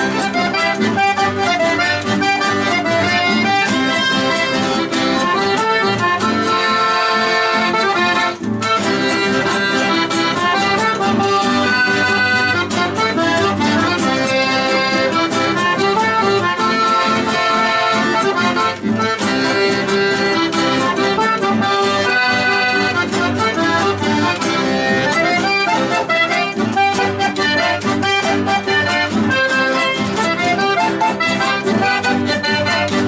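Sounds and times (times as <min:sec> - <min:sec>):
accordion playing folk tune: 0:00.0 - 0:33.0.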